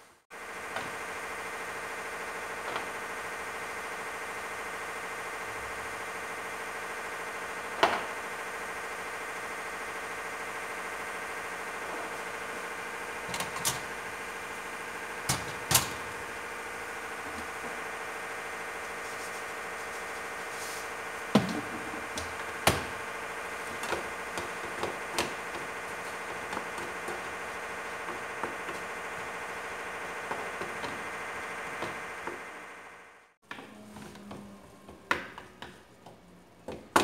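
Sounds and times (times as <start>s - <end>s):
steady hum: 0.5s - 35.1s.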